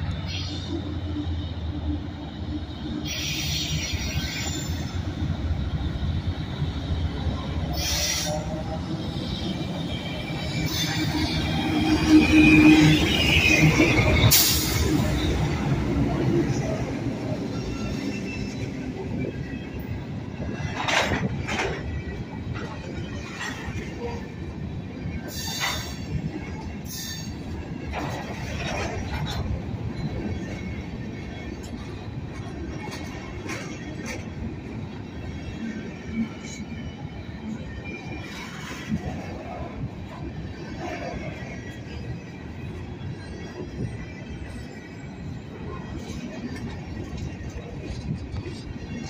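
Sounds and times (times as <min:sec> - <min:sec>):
diesel locomotive engines rumbling: 0:00.0 - 0:49.0.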